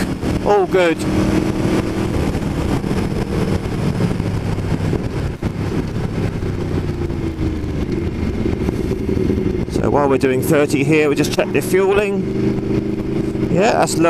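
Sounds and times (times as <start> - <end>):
motorcycle engine at low revs: 0.0 - 14.0
wind noise: 0.0 - 14.0.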